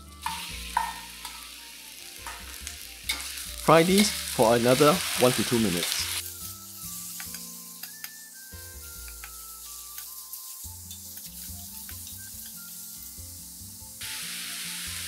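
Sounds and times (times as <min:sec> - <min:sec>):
food sizzling in wok: 0:00.0 - 0:15.0
soft background music: 0:00.0 - 0:15.0.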